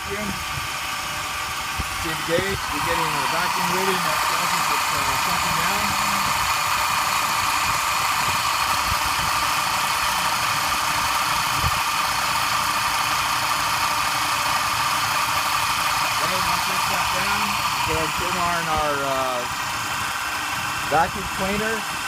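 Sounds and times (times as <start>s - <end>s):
vacuum pump hissing: 0.0s - 22.0s.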